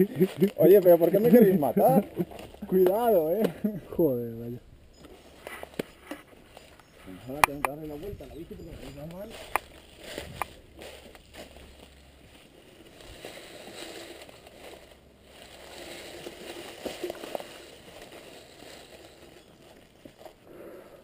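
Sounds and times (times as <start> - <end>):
rustling and crunching leaves: 0.0 - 20.8.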